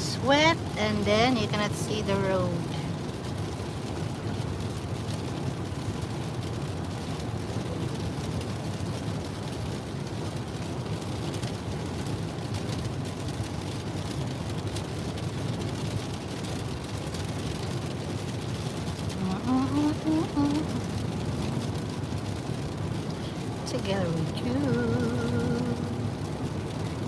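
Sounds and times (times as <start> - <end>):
rain on windshield: 0.0 - 27.0.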